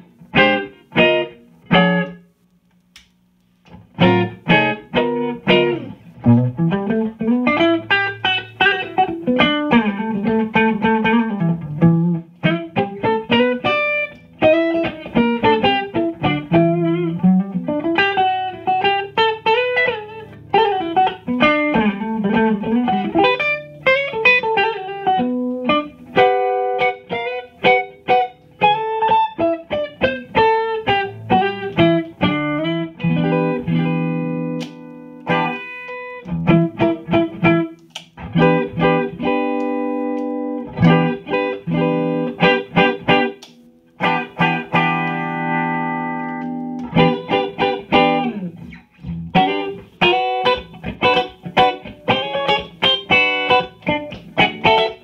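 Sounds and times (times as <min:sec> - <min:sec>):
electric guitar through amplifier: 0:00.0 - 0:55.0.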